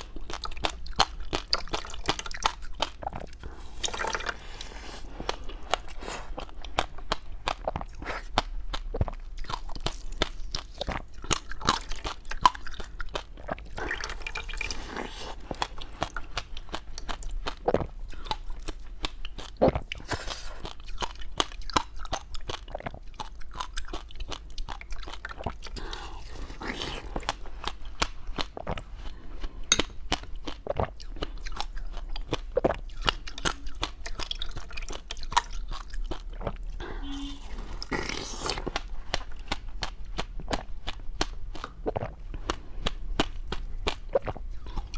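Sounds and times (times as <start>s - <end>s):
crunching and chewing ice: 0.0s - 44.9s.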